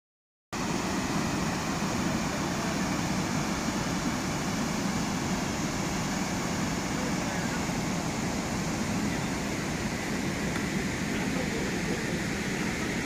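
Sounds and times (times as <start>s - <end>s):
waterfall pouring over rocks: 0.6s - 13.0s.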